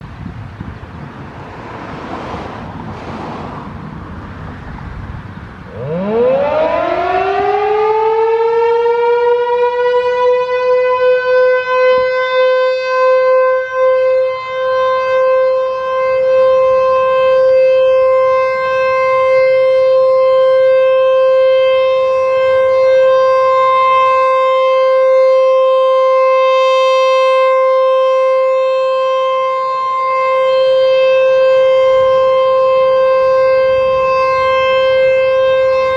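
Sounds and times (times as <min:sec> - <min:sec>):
wind noise on microphone: 0:00.0 - 0:08.4, 0:11.0 - 0:35.9
warning siren winding up: 0:05.7 - 0:35.9.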